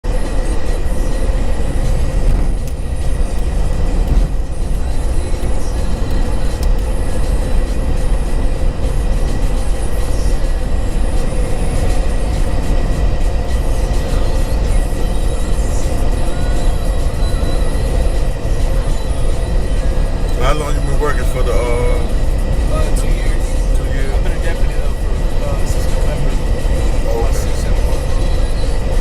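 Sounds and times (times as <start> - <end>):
low rumble of moving vehicle: 0.0 - 29.0.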